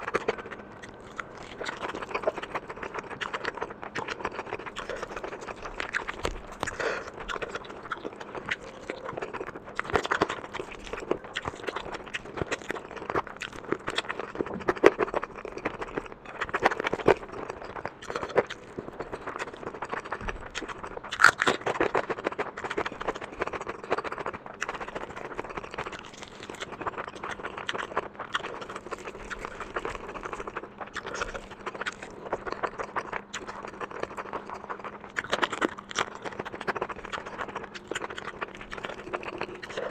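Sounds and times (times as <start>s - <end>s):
chewing and wet mouth sounds: 0.0s - 39.9s
crunchy bites: 0.0s - 39.9s.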